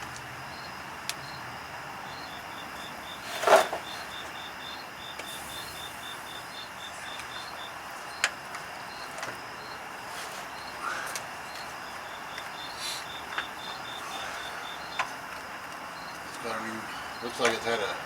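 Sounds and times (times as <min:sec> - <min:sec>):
background hiss: 0:00.0 - 0:18.0
insect chirping: 0:00.0 - 0:18.0.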